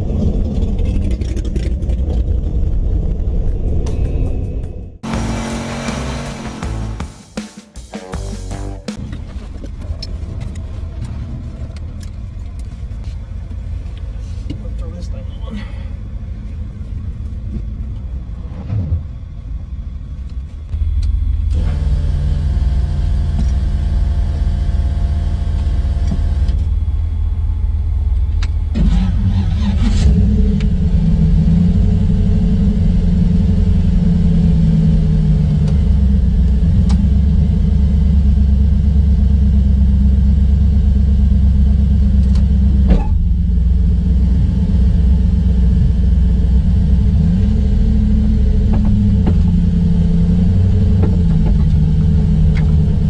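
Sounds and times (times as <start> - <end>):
car engine idling: 5.0 - 53.0.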